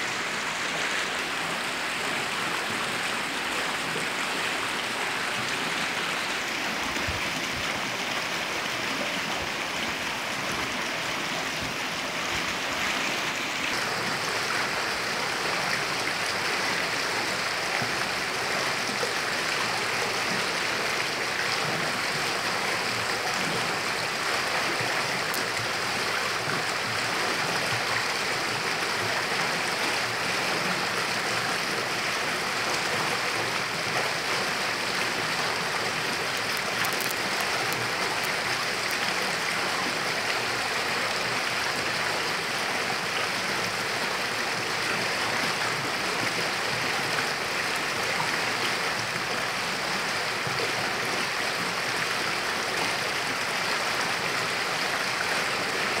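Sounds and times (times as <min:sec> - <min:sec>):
water pouring over rocks: 0:00.0 - 0:49.6.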